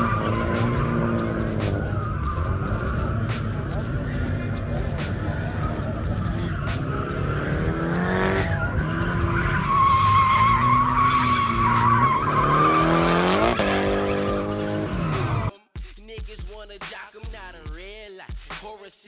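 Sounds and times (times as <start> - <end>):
car engine revving: 0.0 - 15.5
tyres squealing: 0.0 - 15.5.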